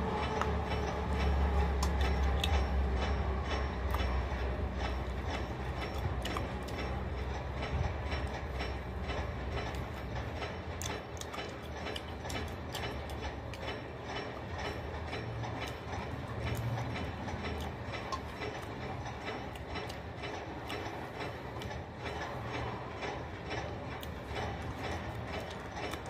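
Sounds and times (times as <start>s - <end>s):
chewing crunchy food: 0.1s - 4.2s, 4.8s - 23.1s, 23.9s - 26.0s.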